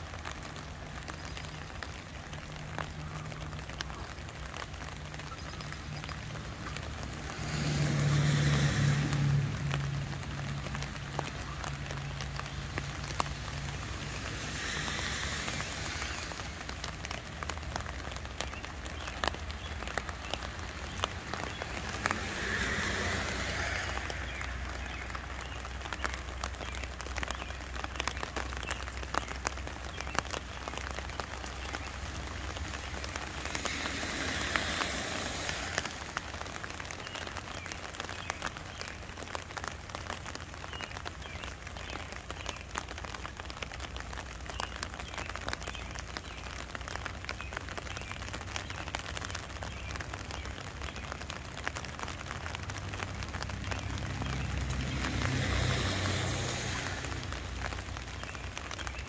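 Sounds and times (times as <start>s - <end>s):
raindrops tapping on umbrella: 0.0s - 59.0s
steady rain falling: 0.0s - 59.0s.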